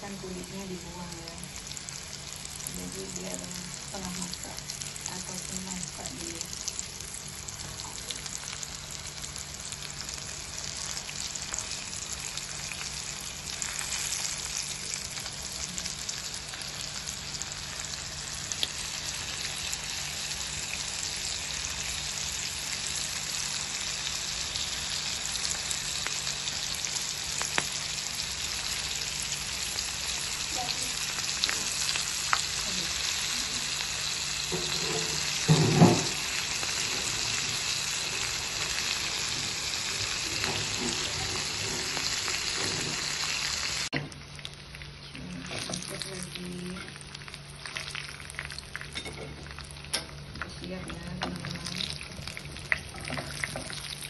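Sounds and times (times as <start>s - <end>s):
prawns deep-frying in oil: 0.0s - 54.0s.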